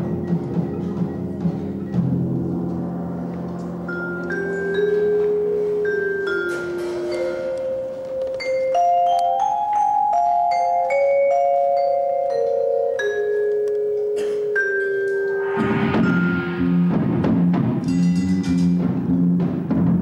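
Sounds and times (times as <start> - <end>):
vibraphones and marimbas playing chords: 0.0 - 19.4.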